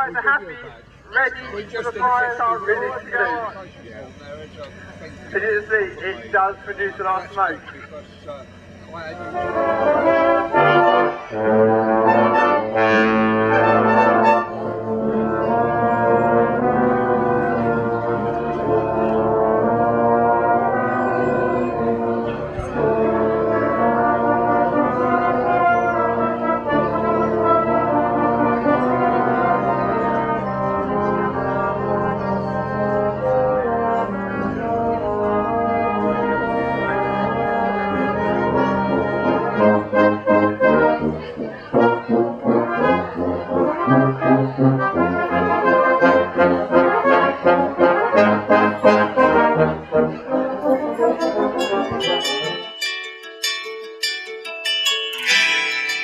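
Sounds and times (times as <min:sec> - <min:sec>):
brass band playing: 0:08.5 - 0:52.9, 0:55.2 - 0:56.0.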